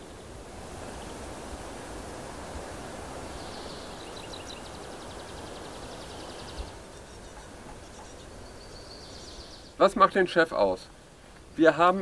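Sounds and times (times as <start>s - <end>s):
wind-like hiss: 0.0s - 12.0s.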